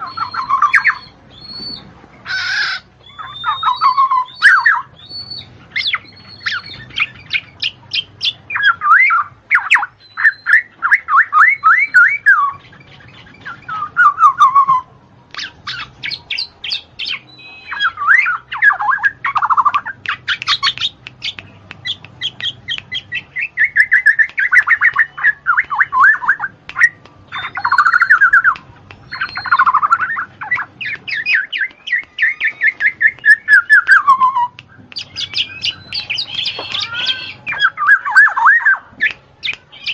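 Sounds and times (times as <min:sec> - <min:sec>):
birds singing trills: 0:00.0 - 0:39.9.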